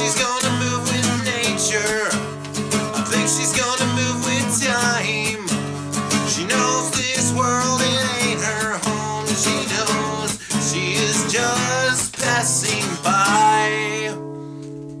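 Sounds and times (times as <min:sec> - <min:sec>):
rock song with guitars: 0:00.0 - 0:14.9.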